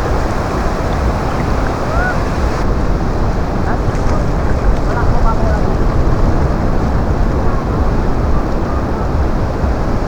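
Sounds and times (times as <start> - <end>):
sea waves: 0.0 - 10.0
wind buffeting microphone: 0.0 - 10.0.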